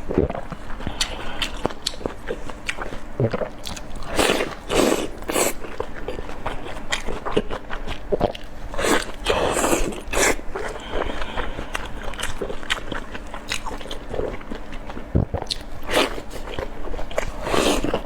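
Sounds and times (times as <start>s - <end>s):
biting and mouth noise: 0.0s - 18.0s
wet chewing: 0.0s - 18.0s.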